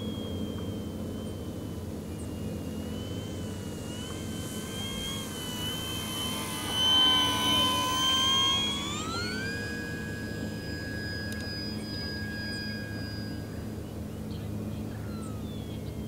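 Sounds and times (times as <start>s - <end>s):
model plane electric motor whine: 0.0s - 16.0s.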